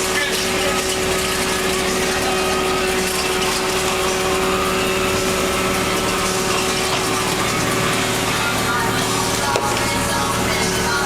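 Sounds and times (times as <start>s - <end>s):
boat machinery humming: 0.0s - 11.0s.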